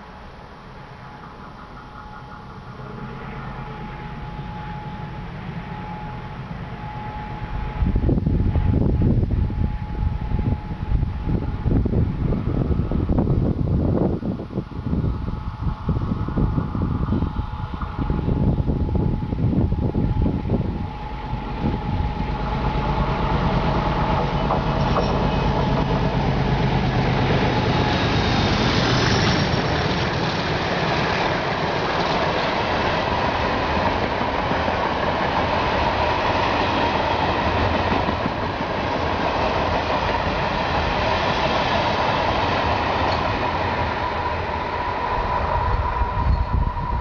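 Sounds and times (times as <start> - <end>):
diesel locomotive engines droning: 0.0 - 47.0
freight wagons rumbling: 0.0 - 47.0.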